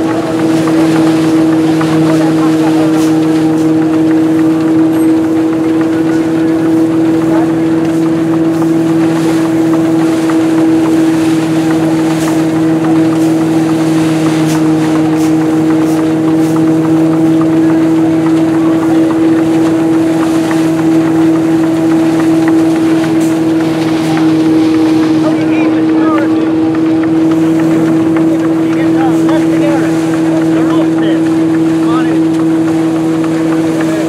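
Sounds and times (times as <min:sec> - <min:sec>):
threshing mill humming: 0:00.0 - 0:34.0.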